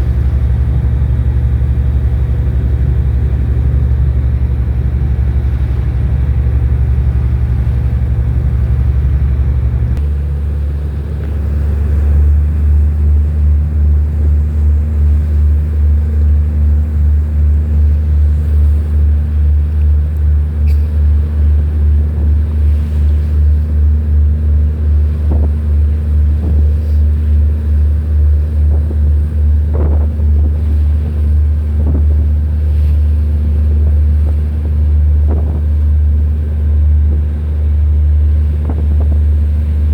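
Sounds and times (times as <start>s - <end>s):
boat engine throbbing: 0.0s - 39.9s.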